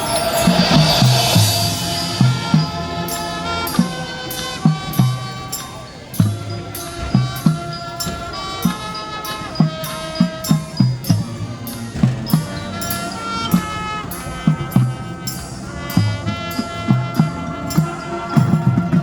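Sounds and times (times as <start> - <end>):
marching drums and cymbals: 0.0 - 19.0
winds and brass sustained notes: 0.0 - 19.0.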